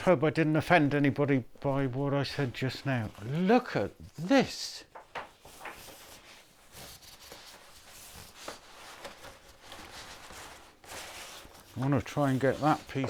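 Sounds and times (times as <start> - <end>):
wood veneer sheets rustling: 1.6 - 13.0.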